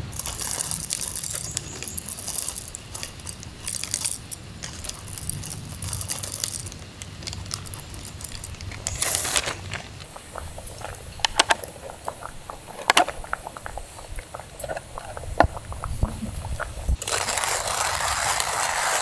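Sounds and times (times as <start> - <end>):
low rumble: 0.0 - 17.0
small hard objects clinking: 0.0 - 19.0.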